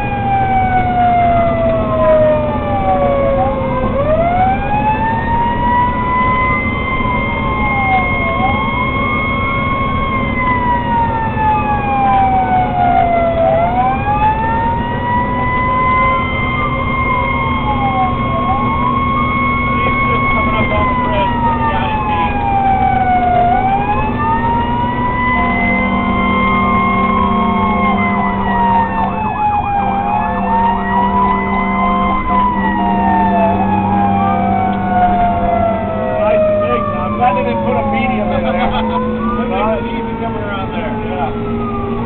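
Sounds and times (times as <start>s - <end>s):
engine drone: 0.0s - 42.0s
fire engine sirens wailing: 0.0s - 42.0s.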